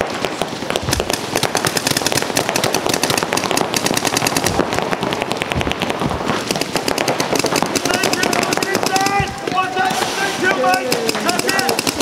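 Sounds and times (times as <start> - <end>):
paintball markers firing: 0.0 - 12.0.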